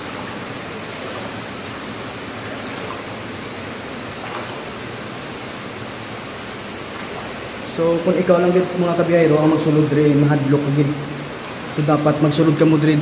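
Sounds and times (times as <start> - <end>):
flowing water in a cave: 0.0 - 13.0.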